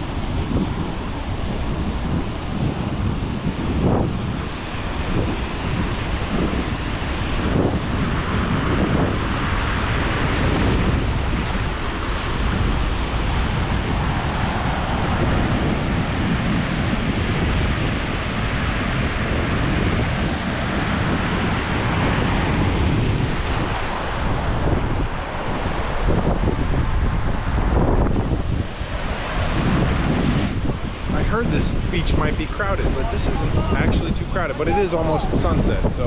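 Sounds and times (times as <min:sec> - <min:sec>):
small waves breaking: 0:00.0 - 0:33.9
wind buffeting microphone: 0:00.0 - 0:36.0.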